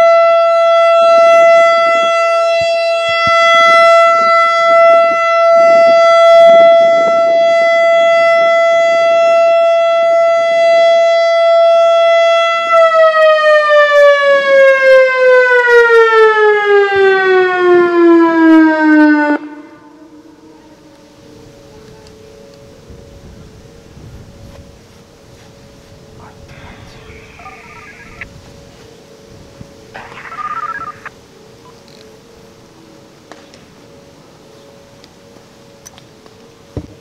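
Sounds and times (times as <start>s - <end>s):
outdoor warning siren: 0.0s - 37.0s.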